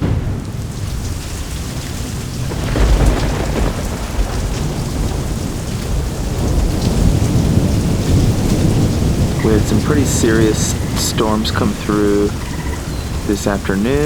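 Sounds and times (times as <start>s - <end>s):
deep rumble of thunder: 0.0s - 14.0s
heavy rain falling: 0.0s - 14.0s.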